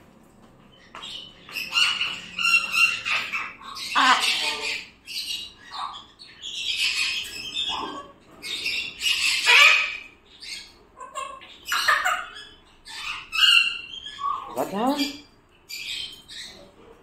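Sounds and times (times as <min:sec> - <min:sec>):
parrots squawking: 0:00.8 - 0:16.8.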